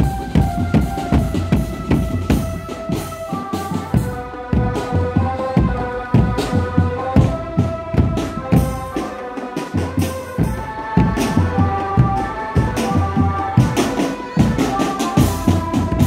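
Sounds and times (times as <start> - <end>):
drumband music: 0.0 - 16.0.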